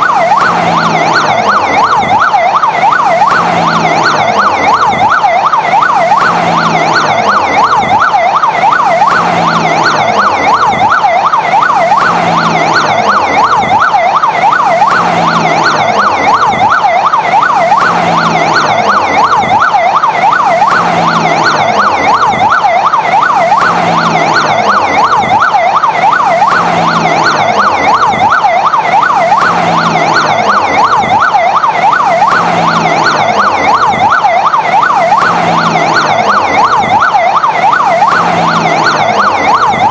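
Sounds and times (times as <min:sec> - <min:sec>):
fire engine siren yelping: 0:00.0 - 0:39.9.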